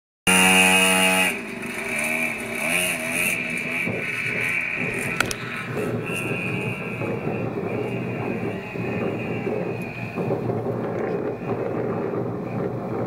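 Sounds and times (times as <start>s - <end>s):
motocross bike engines revving: 0.3s - 13.0s.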